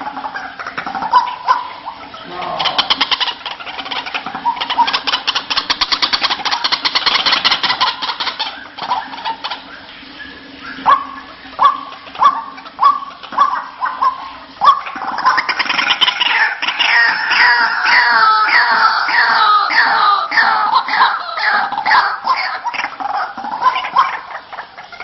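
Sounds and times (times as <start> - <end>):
waterhen calling: 0.0 - 25.0.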